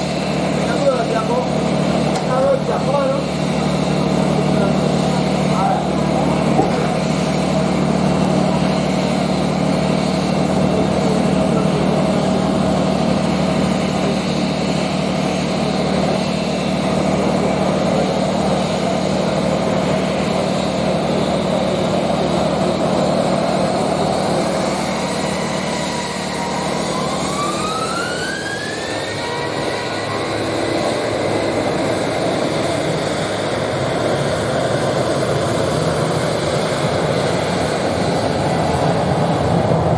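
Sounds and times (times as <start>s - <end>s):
jet engines spooling up: 0.0s - 39.9s.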